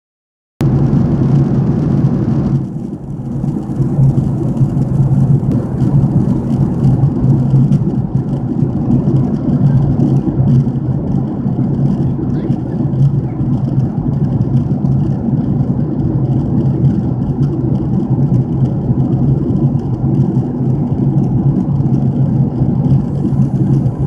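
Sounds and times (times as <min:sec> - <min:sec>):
jet engines roaring in cabin: 0:00.6 - 0:24.0.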